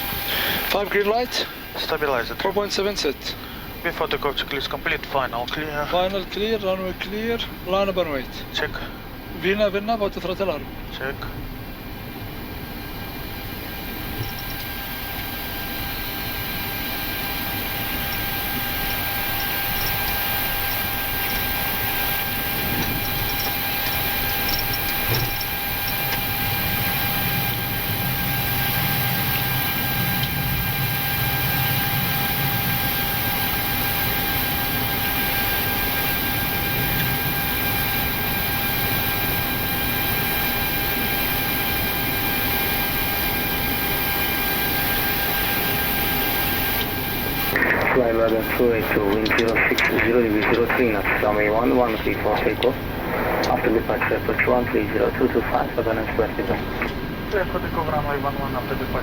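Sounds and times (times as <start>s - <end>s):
jet engines idling hiss: 0.0s - 59.0s
high-pitched hum: 10.0s - 59.0s.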